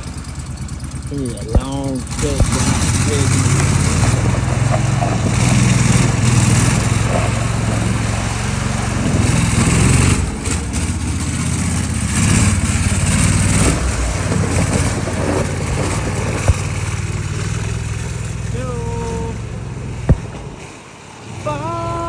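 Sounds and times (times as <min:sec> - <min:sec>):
small boat motor running: 0:00.0 - 0:22.0
rush of wind and water: 0:01.5 - 0:22.0.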